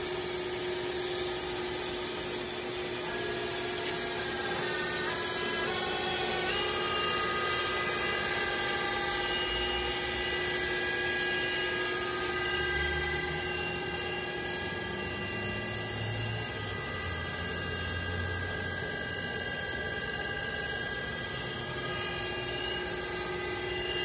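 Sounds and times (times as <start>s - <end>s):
machine spindle whine: 0.0s - 24.0s.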